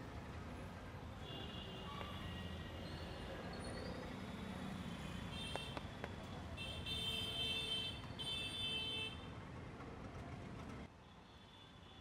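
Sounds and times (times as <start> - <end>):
traffic on wet road: 0.0 - 10.9.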